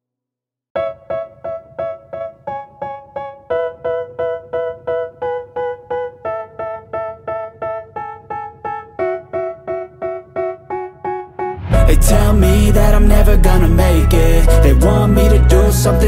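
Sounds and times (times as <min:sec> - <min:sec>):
keyboard playing repeated chords: 0:00.8 - 0:16.0.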